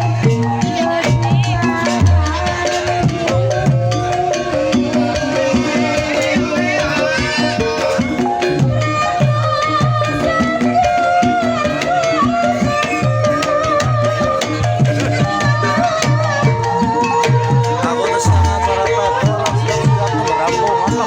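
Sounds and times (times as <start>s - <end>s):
hand drums: 0.0s - 21.0s
ringing metallophone tones: 0.0s - 21.0s
wavering melody line: 0.0s - 21.0s.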